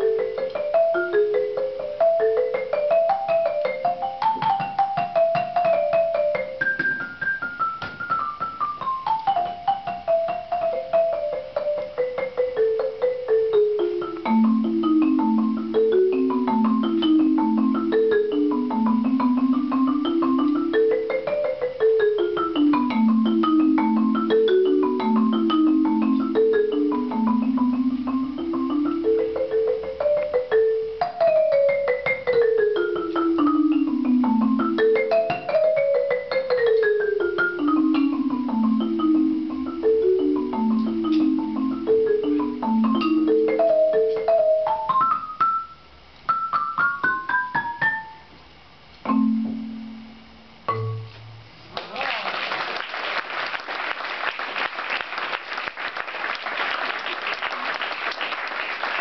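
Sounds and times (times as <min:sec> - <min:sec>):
marimba played with mallets: 0:00.0 - 0:48.4, 0:49.0 - 0:51.6.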